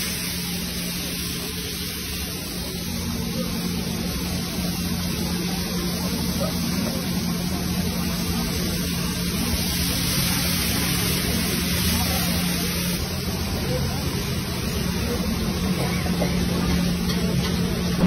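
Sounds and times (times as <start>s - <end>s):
fish sizzling in hot oil: 0.0s - 18.0s.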